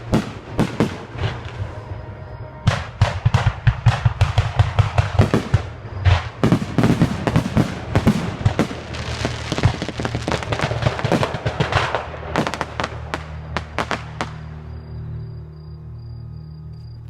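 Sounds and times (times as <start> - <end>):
fireworks bangs and crackling: 0.0 - 14.6.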